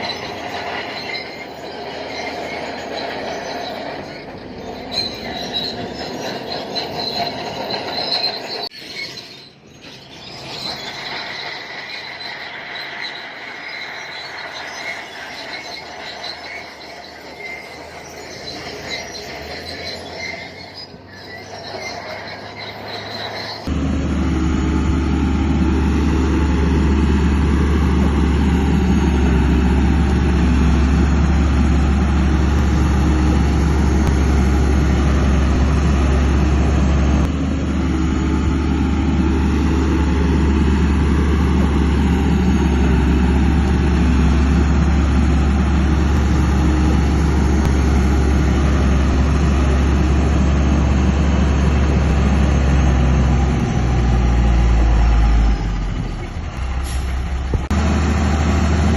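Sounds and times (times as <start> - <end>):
bulldozer diesel engine droning: 0.0 - 58.9.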